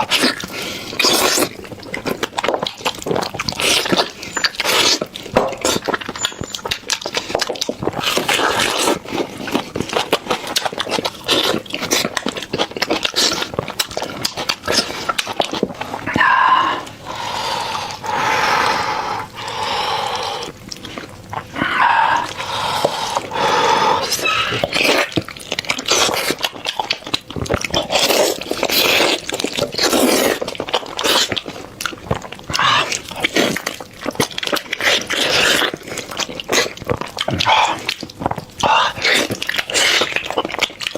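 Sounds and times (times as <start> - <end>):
wet chewing and lip-smacking: 0.0 - 40.9.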